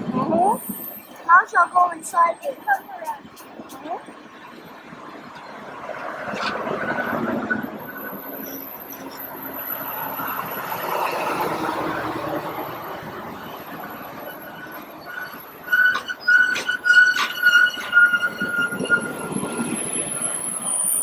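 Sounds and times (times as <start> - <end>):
train rumbling: 0.0 - 21.0
train wheels squealing on rails: 0.4 - 21.0.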